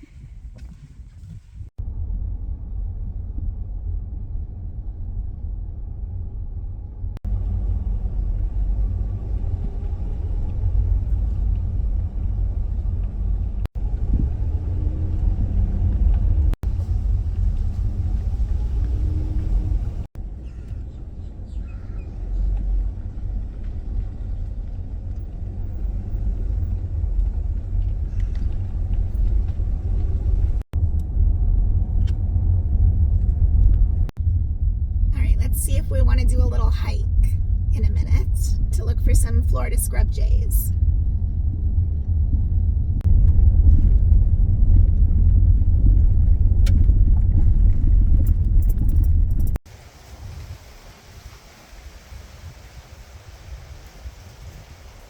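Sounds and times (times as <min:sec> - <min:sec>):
road and engine rumble in car: 0:00.0 - 0:55.0.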